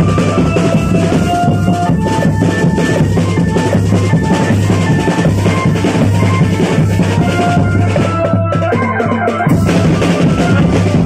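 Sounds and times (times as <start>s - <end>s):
drum-led music: 0.0s - 11.0s.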